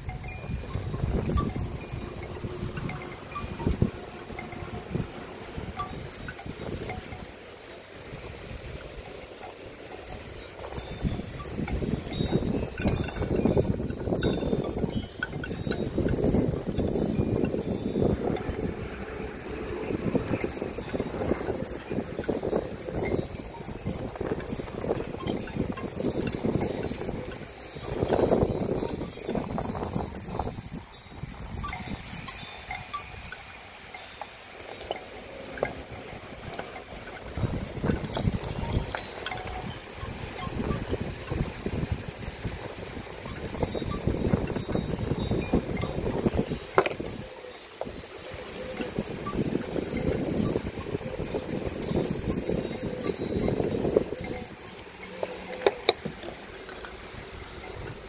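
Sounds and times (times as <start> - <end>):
wind chimes tinkling: 0.0 - 58.0.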